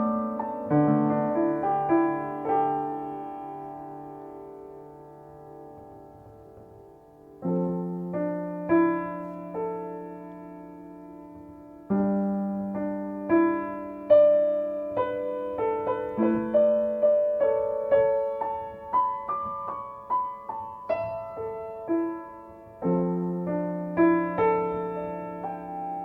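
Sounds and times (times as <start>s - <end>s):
solo piano melody: 0.0s - 26.0s.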